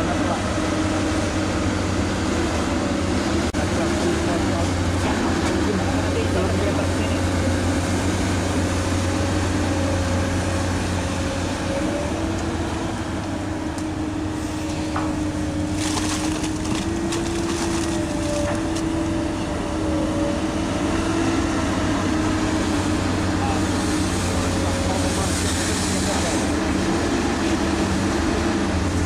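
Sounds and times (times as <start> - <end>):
excavator diesel engine whining: 0.0 - 29.0.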